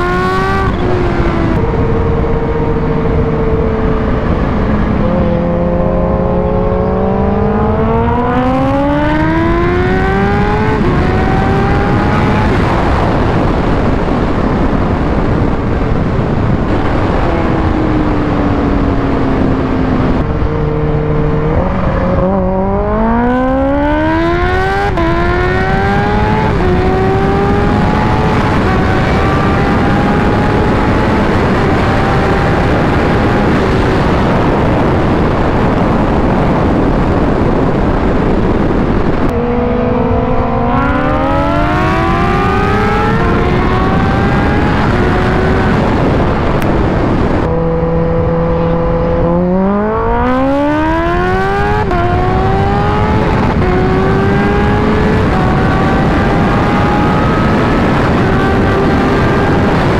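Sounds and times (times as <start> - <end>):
motorcycle engine at speed: 0.0 - 59.9
wind rush on microphone: 0.0 - 59.9.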